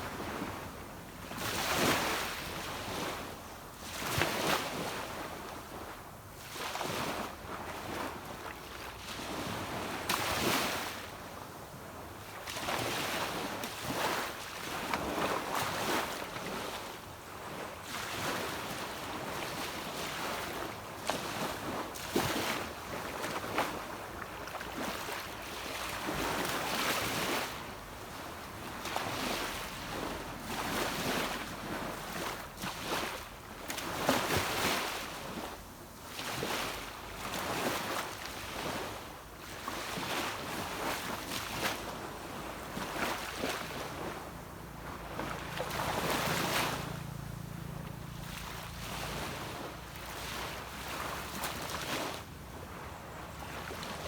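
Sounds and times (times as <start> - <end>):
sea waves washing onto beach: 0.0 - 54.0.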